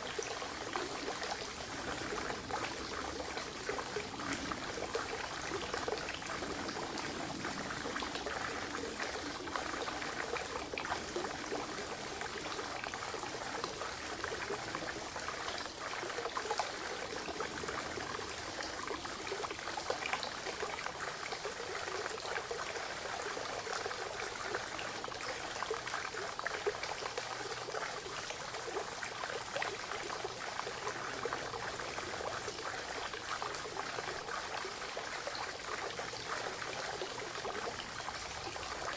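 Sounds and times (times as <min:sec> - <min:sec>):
water trickling into a pond: 0:00.0 - 0:38.9.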